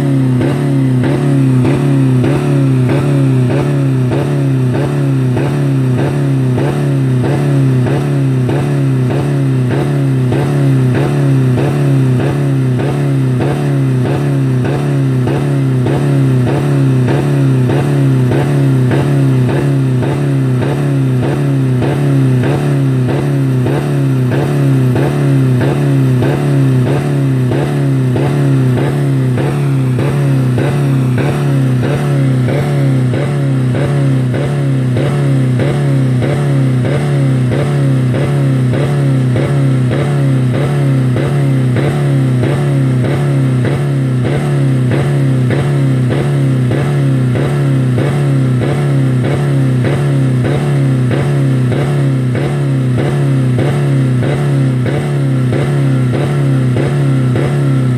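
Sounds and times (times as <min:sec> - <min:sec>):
car engine revving at limiter: 0:00.0 - 0:57.9.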